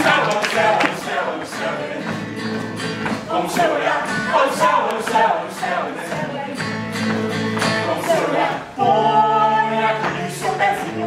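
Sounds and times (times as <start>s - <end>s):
cast singing together: 0.0s - 11.0s
instrumental accompaniment with beat: 0.0s - 11.0s.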